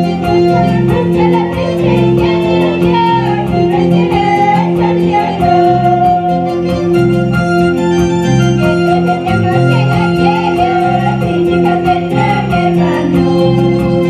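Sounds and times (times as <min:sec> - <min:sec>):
keyboard playing plucked melody: 0:00.0 - 0:14.0
ticking beat: 0:00.0 - 0:14.0.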